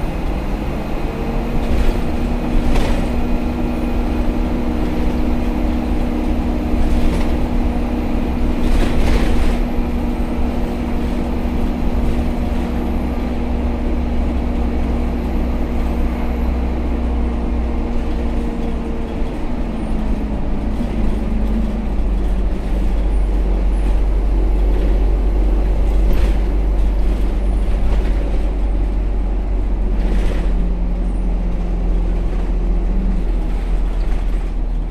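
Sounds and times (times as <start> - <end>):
bus engine droning: 0.0 - 34.9.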